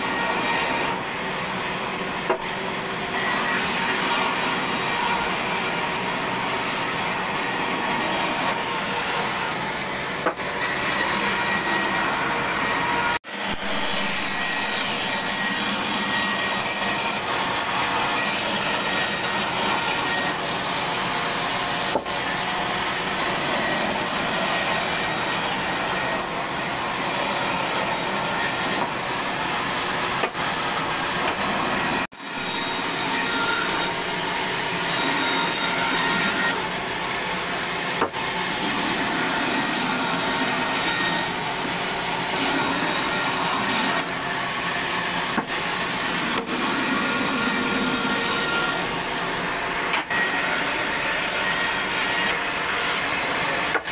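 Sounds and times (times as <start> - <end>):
band saw cutting wood: 0.0 - 53.9.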